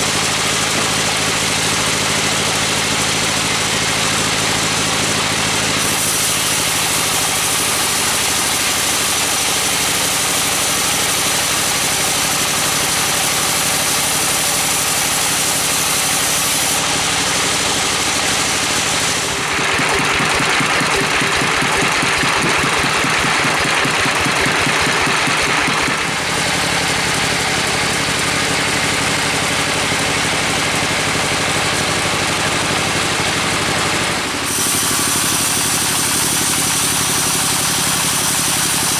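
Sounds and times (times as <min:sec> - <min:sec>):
sawmill machinery engine running: 0:00.0 - 0:38.9.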